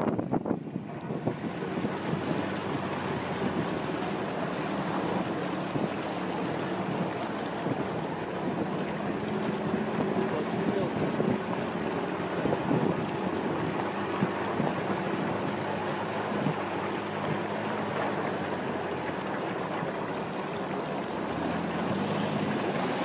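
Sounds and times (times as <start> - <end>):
water churning and splashing: 0.0 - 23.0
vehicle engine running: 0.7 - 23.0.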